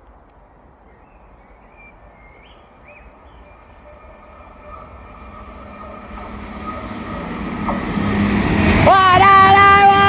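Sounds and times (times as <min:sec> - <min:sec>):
diesel train approaching: 0:01.3 - 0:10.0.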